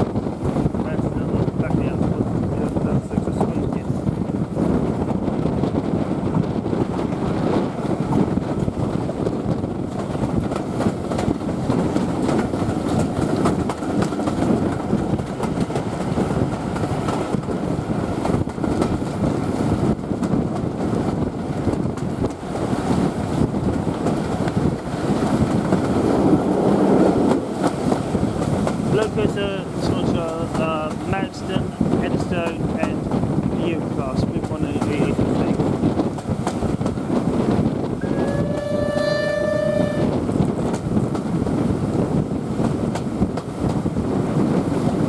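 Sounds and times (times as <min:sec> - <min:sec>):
train wheels rolling on rails: 0:00.0 - 0:45.0.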